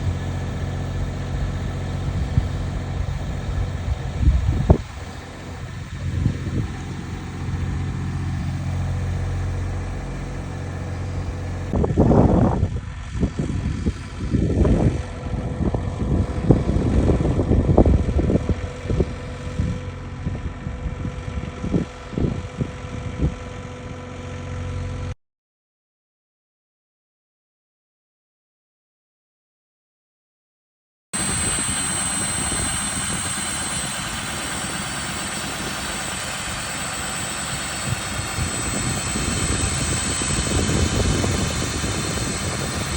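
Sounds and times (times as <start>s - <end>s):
engine idling: 0.0s - 24.9s, 31.2s - 42.9s.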